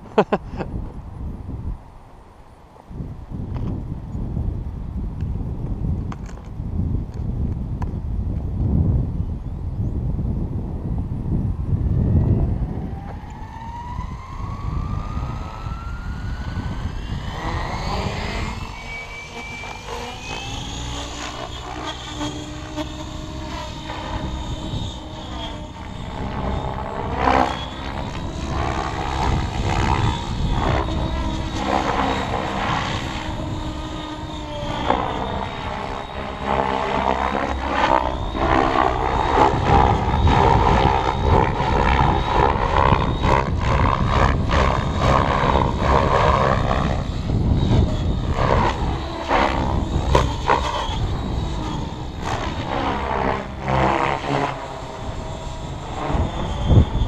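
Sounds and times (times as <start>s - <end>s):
rc helicopter motor whine: 2.5s - 57.0s.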